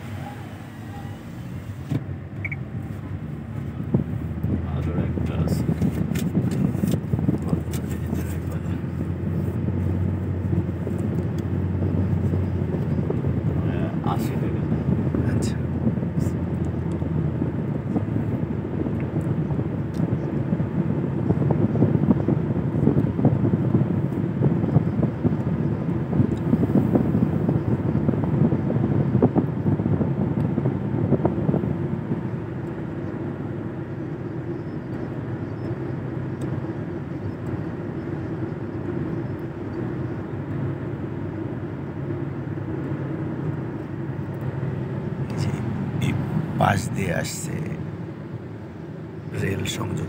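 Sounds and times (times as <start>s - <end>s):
car cabin road and engine noise: 0.0s - 50.0s.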